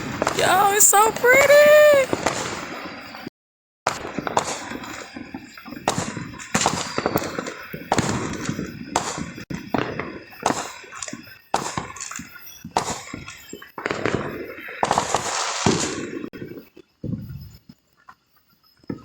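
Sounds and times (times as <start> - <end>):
fireworks bangs and pops: 0.0 - 3.2, 3.9 - 18.2.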